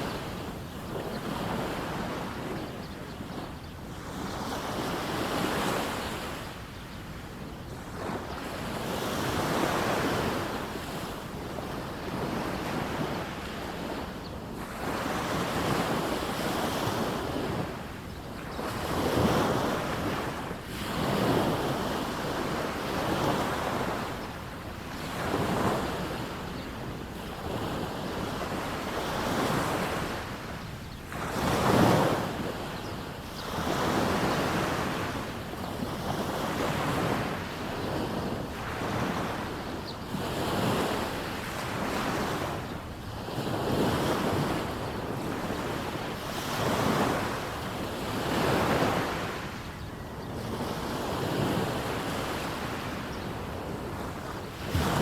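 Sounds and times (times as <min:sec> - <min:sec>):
small waves breaking on sand: 0:00.0 - 0:55.0.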